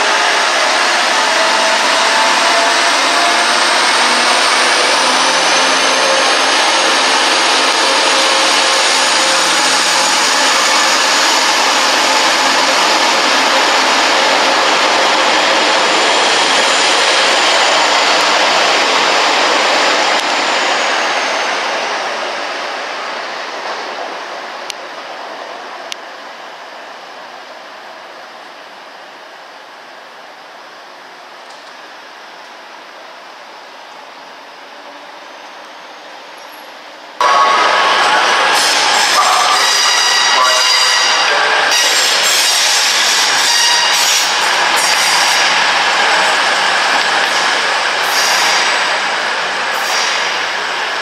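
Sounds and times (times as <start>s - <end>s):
diesel train engine drone: 0.0s - 51.0s.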